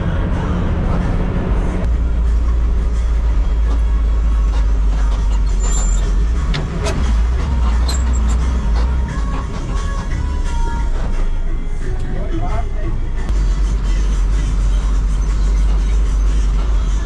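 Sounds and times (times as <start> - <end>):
diesel engine low drone: 0.0 - 17.0.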